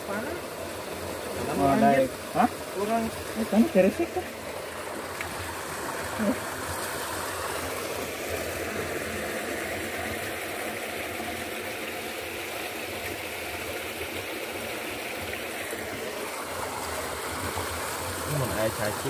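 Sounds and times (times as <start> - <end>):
water rushing through a ditch: 0.0 - 19.0.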